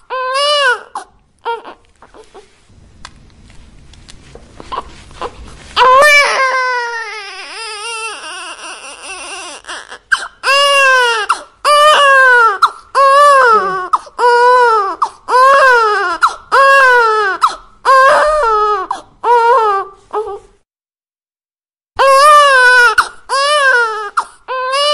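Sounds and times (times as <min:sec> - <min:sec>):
baby crying: 0:00.0 - 0:02.5, 0:04.7 - 0:20.5, 0:22.0 - 0:24.9.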